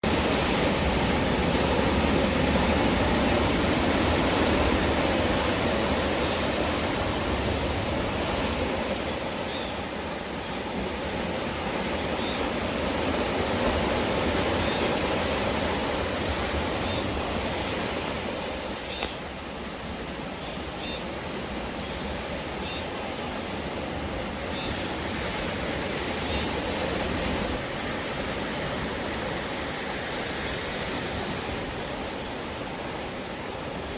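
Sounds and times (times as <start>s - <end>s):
sea waves washing on shore: 0.0s - 33.9s.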